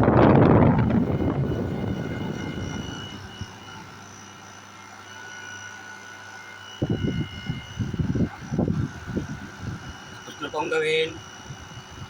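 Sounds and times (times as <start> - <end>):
air conditioner fan whirring: 0.0 - 12.0.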